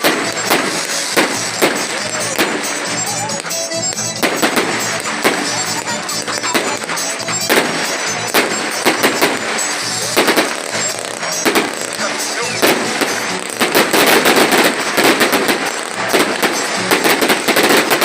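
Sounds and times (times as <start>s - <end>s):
fireworks bangs: 0.0s - 18.0s
loud festival music: 0.0s - 18.0s.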